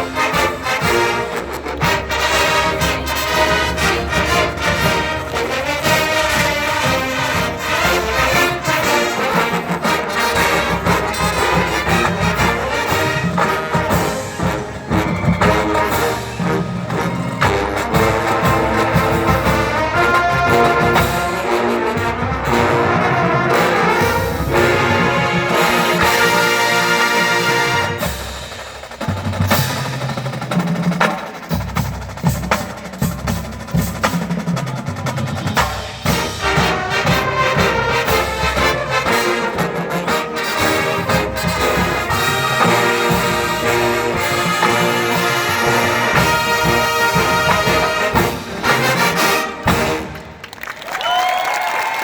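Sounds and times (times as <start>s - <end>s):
crowd cheering: 0.0s - 28.2s, 34.5s - 52.0s
marching band playing: 0.0s - 52.0s.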